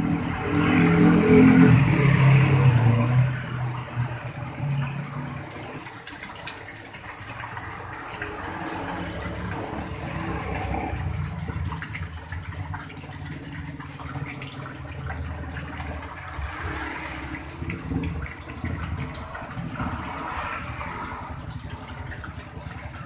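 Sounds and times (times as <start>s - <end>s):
water splashing into pond: 0.0s - 23.0s.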